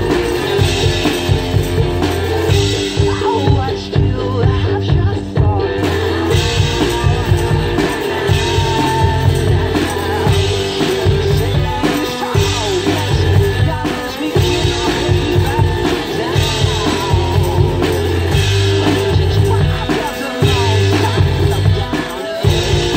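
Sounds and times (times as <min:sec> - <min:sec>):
drums: 0:00.0 - 0:22.9
guitar: 0:00.0 - 0:22.9
person singing: 0:00.0 - 0:22.9
steady bass line: 0:00.0 - 0:22.9.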